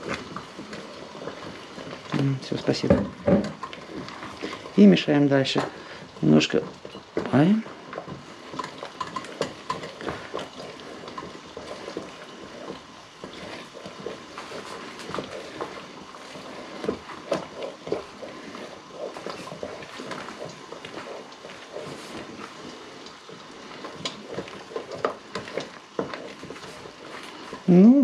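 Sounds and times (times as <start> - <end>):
wooden spoon scraping a pot: 0.0 - 28.0.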